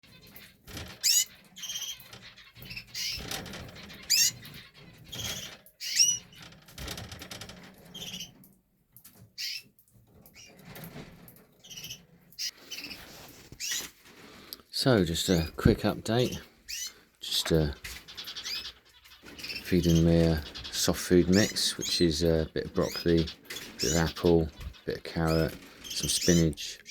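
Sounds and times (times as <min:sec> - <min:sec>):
canaries chirping: 0:00.0 - 0:08.5, 0:09.2 - 0:14.2, 0:14.8 - 0:26.9.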